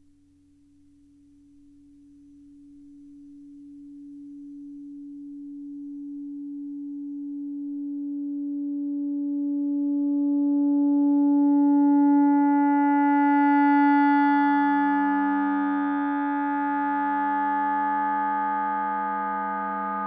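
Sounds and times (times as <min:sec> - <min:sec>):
electroacoustic feedback tones: 0:00.0 - 0:20.0.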